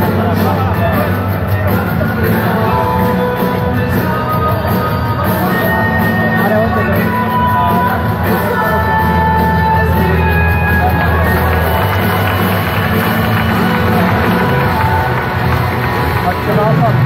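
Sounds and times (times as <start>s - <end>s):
crowd noise: 0.0s - 17.0s
loud music with singing: 0.0s - 17.0s.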